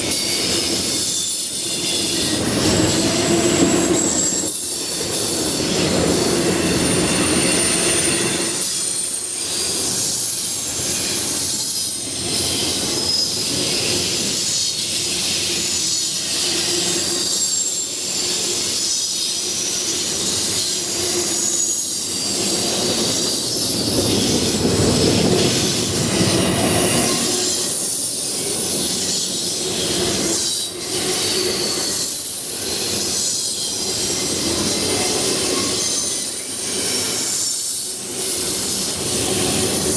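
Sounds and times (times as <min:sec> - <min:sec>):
freight train rolling past: 0:00.0 - 0:39.9
wheels squealing against rails: 0:00.0 - 0:39.9.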